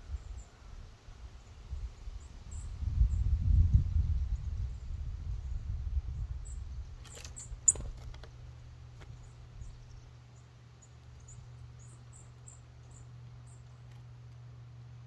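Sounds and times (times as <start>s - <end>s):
low steady hum: 0.0s - 15.0s
songbirds chipping: 0.0s - 15.0s.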